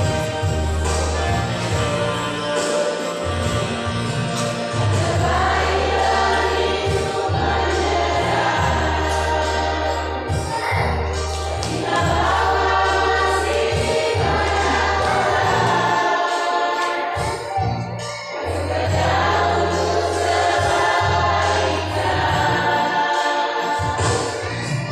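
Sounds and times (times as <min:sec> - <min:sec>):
choir singing: 0:00.0 - 0:24.9
musical accompaniment with bass: 0:00.0 - 0:24.9.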